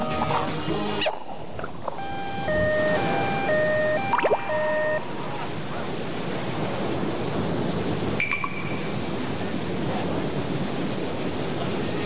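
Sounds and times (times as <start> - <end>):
sea waves and surf: 0.0 - 12.0
wind: 0.0 - 12.0.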